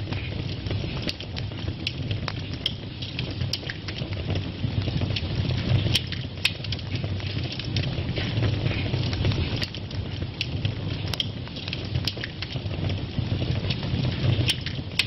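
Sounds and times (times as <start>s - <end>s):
fire burning in a fireplace: 0.0s - 15.0s
fire crackling and popping: 0.0s - 15.0s.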